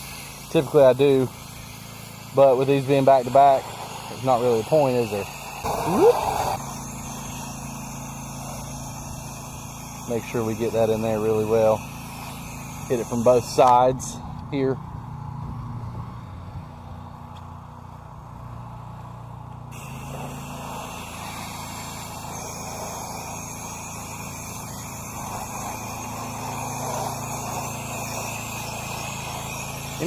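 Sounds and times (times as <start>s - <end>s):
water spray hissing: 0.0s - 14.0s, 19.7s - 30.0s
pressure washer pump humming: 0.0s - 15.4s, 17.1s - 30.0s.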